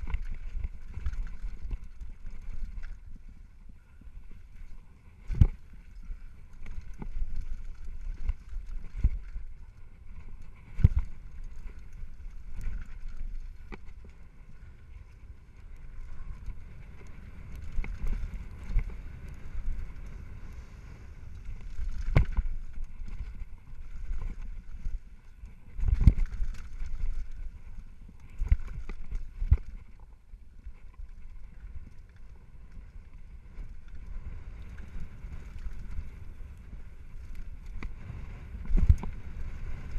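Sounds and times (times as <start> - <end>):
bike tyres rumbling on dirt: 0.0 - 39.9
wind on microphone: 0.0 - 39.9.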